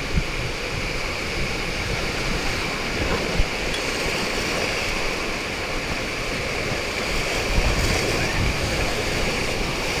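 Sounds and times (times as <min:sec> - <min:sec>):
river water rushing: 0:00.0 - 0:10.0
wind on microphone: 0:00.0 - 0:10.0.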